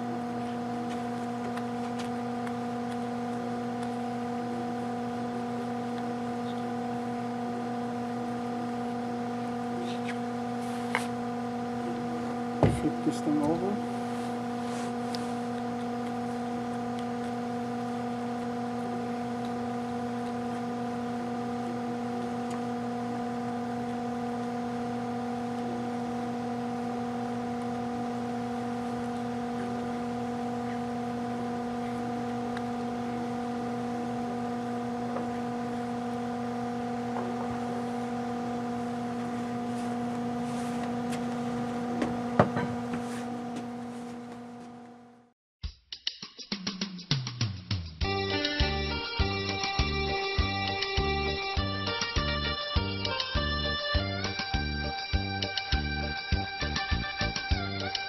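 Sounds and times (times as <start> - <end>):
electrical mains hum: 0.0 - 45.3, 48.0 - 58.0.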